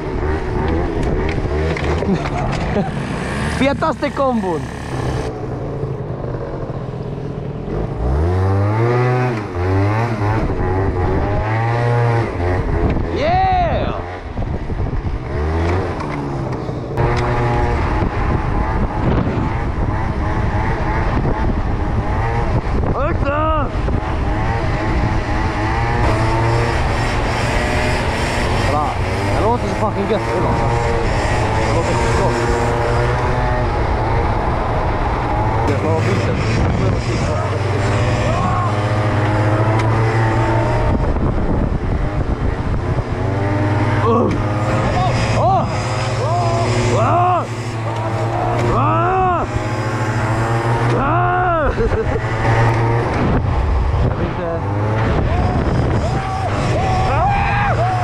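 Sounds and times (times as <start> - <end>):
moped engine revving: 0.0 - 58.0.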